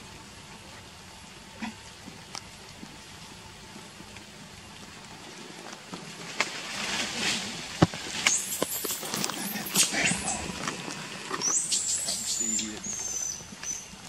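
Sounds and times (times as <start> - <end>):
faint background hiss: 0.0 - 14.0
leaves and twigs crackling: 2.0 - 14.0.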